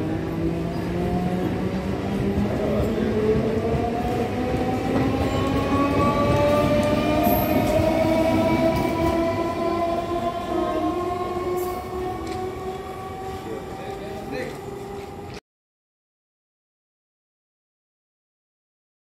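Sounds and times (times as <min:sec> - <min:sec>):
train wheels rumbling on rails: 0:00.0 - 0:15.4.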